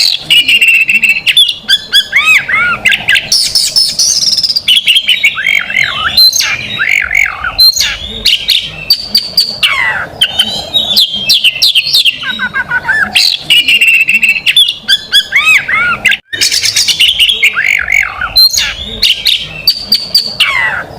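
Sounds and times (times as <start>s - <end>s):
bird singing whistled phrases: 0.0s - 20.8s.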